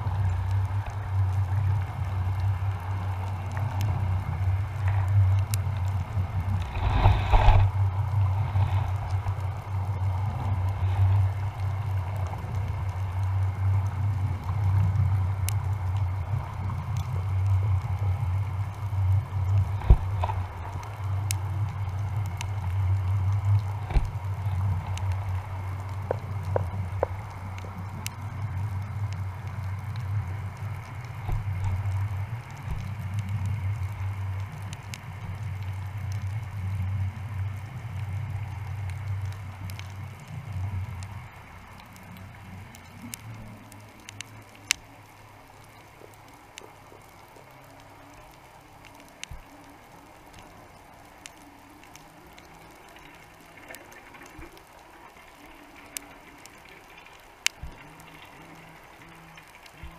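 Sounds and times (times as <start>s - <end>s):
faint hiss: 0.0s - 59.9s
low wavering underwater rumble: 0.0s - 59.9s
small clicks and crackles: 0.0s - 59.9s.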